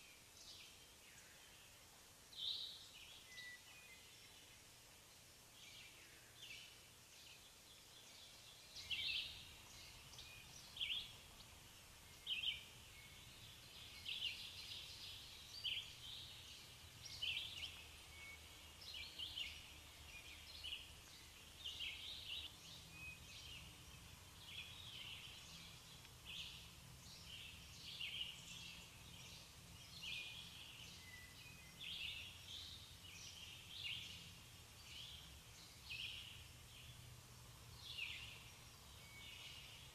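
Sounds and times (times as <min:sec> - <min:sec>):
faint low steady hum: 0:00.0 - 0:39.9
small birds chirping: 0:00.0 - 0:39.9.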